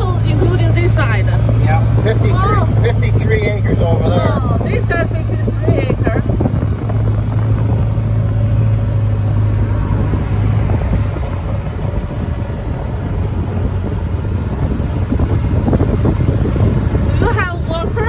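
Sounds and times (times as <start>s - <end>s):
farm vehicle engine running: 0.0s - 18.0s
wind rumbling on microphone: 0.0s - 18.0s.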